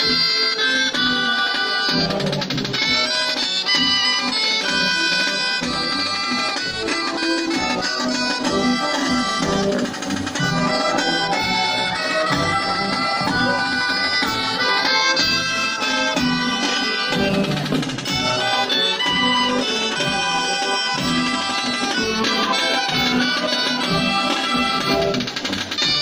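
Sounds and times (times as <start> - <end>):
reedy dance music melody: 0.0 - 26.0.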